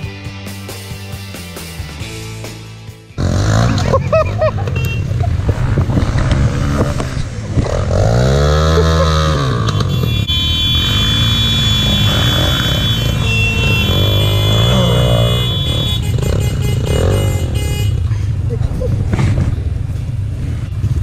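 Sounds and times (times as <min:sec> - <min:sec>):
motorcycle engines running: 0:00.0 - 0:21.0
motorcycle revving: 0:00.0 - 0:21.0.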